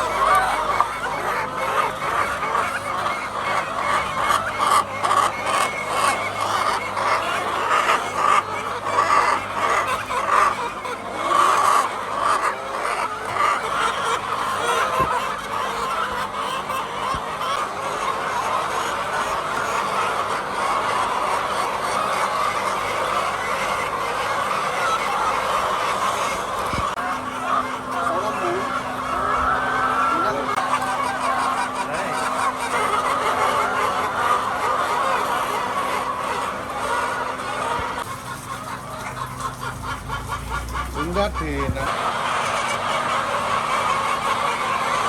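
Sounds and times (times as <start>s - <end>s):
hens clucking and calling: 0.0s - 45.0s.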